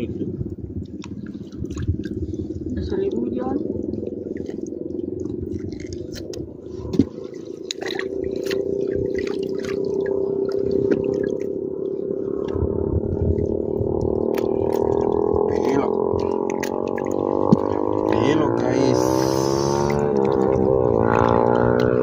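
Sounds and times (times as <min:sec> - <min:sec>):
steady low droning hum: 0:00.0 - 0:22.0
shallow water splashing: 0:00.7 - 0:22.0.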